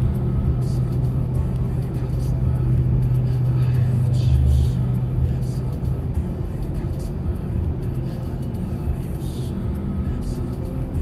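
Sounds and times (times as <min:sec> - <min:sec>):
car road and engine rumble: 0:00.0 - 0:11.0
music playing: 0:00.0 - 0:11.0.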